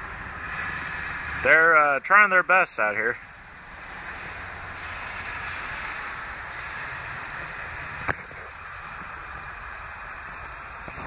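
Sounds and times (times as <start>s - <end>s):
vehicle driving on snow: 0.0s - 11.0s.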